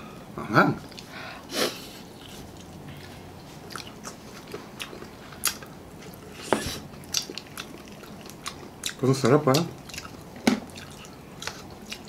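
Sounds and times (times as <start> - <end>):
person chewing food: 2.1 - 12.0.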